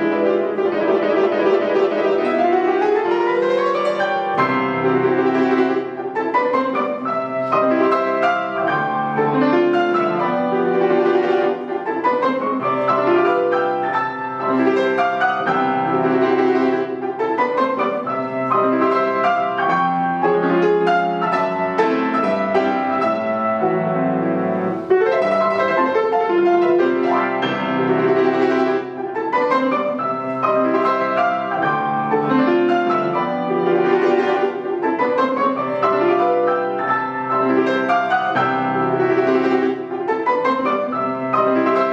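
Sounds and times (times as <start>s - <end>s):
classical piano piece: 0.0s - 41.9s.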